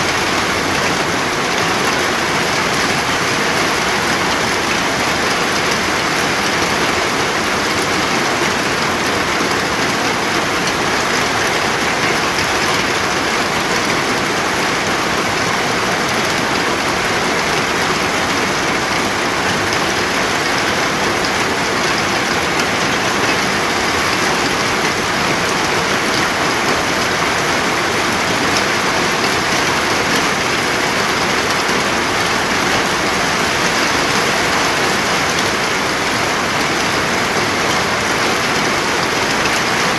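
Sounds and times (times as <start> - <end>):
rain pattering on a surface: 0.1 - 39.9.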